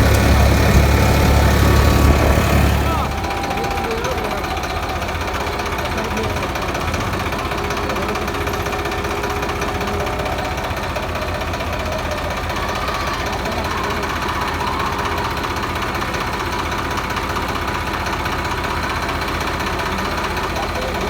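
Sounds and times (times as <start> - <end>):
road noise: 0.0 - 21.0
tractor engine rumbling: 0.0 - 21.0.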